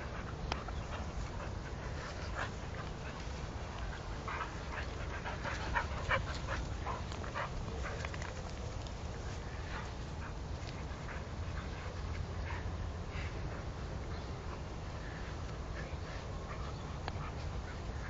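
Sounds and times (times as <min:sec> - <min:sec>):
dogs panting: 0:00.0 - 0:18.0.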